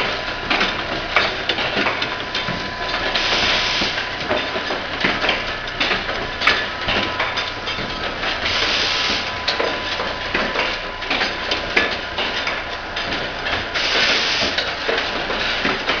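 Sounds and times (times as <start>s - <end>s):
machinery clattering: 0.0s - 16.0s
sharp clicks and knocks: 0.0s - 16.0s.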